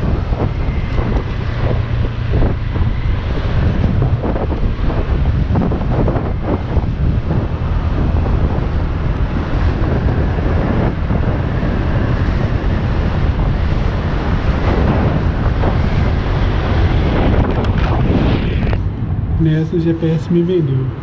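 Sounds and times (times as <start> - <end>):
road noise: 0.0 - 21.0
wind buffeting microphone: 0.0 - 21.0.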